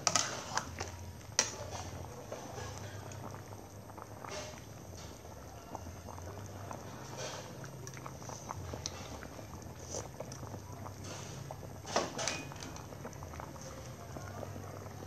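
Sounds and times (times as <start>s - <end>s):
soup boiling and bubbling: 0.0s - 15.0s.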